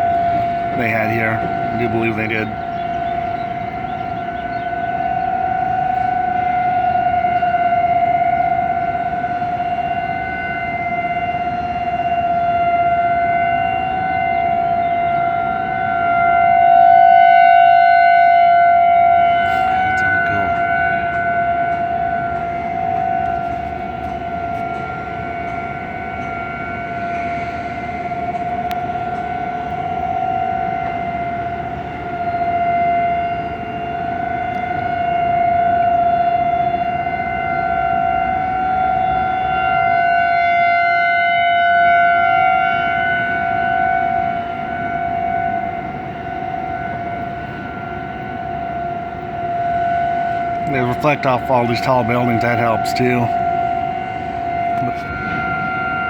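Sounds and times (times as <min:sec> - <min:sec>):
warning sirens steady tone: 0:00.0 - 0:56.0.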